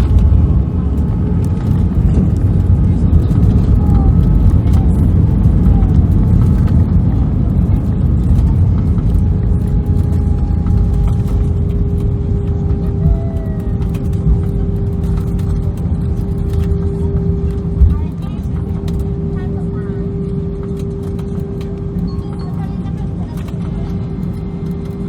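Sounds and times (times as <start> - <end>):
aircraft engines and wheels rumbling: 0.0 - 25.0
steady hum: 0.0 - 25.0.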